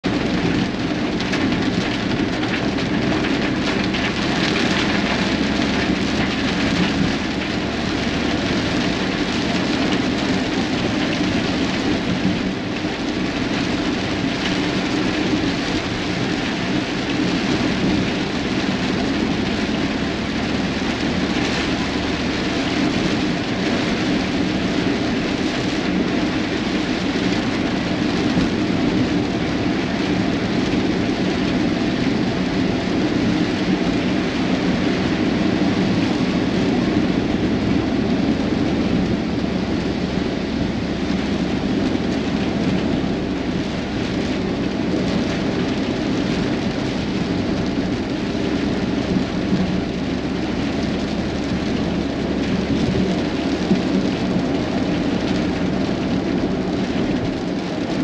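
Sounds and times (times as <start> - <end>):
rain on car windshield: 0.0 - 58.0.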